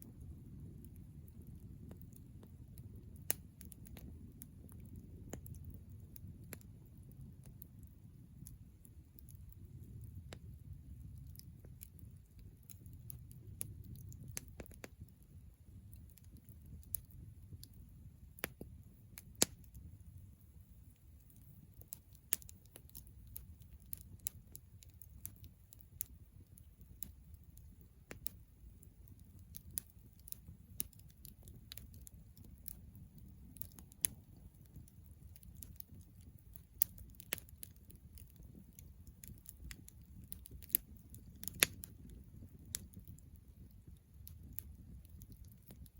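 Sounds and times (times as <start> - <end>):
campfire crackling: 0.0 - 45.9
low steady rumble: 0.0 - 45.9.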